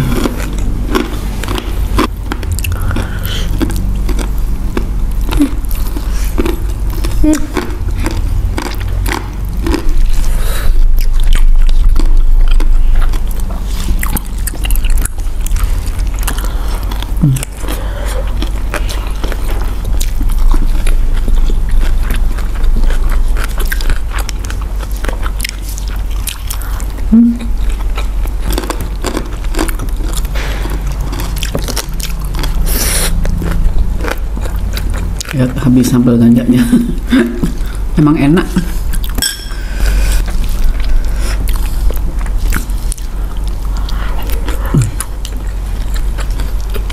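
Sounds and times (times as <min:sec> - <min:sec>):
chewing and biting: 0:00.0 - 0:35.7, 0:40.0 - 0:46.9
low steady hum: 0:00.0 - 0:46.9.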